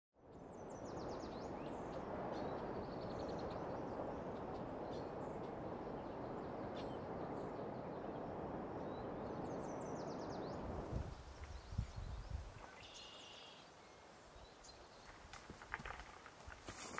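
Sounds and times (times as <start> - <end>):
songbirds trilling and chirping: 0.3 - 16.9.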